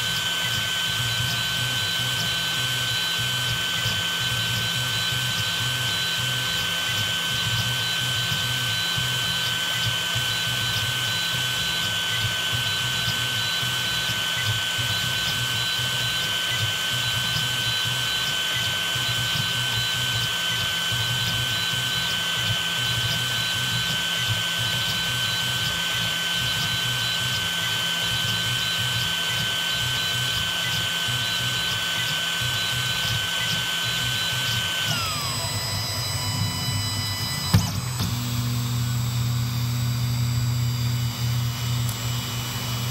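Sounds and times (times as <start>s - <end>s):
high-pitched electronic whine: 0.0s - 42.9s
low hum of fans and motors: 0.0s - 42.9s.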